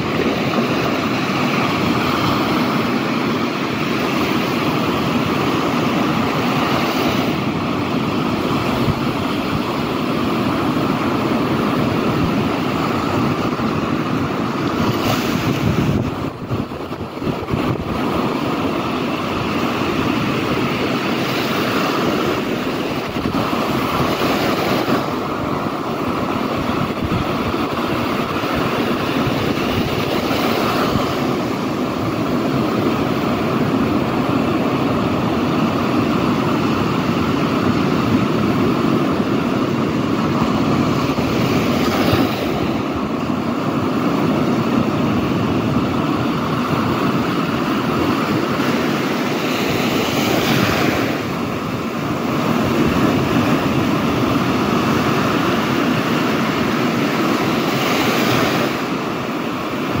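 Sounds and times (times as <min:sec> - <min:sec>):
surf breaking on a sandy beach: 0:00.0 - 1:00.0.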